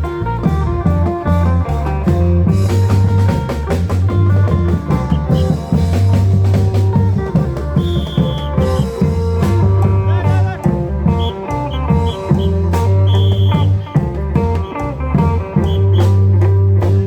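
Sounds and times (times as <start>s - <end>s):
drum band playing procession music: 0.0s - 17.0s.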